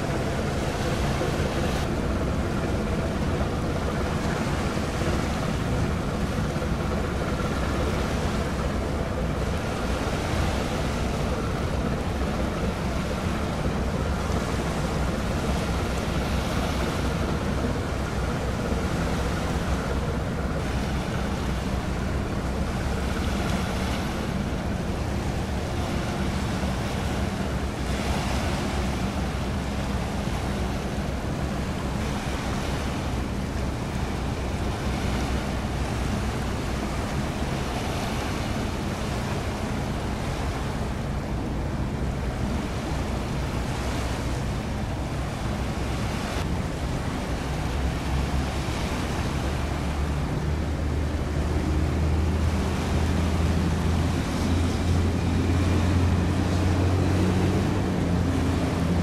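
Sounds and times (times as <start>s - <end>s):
ship diesel engine drone: 0.0s - 59.0s
water washing: 0.0s - 59.0s
wind noise on microphone: 0.0s - 59.0s.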